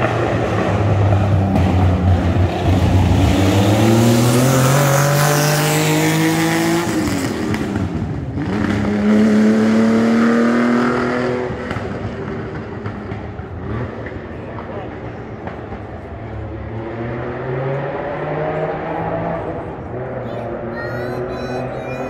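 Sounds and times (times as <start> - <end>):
racing car engine at full throttle: 0.0 - 22.0.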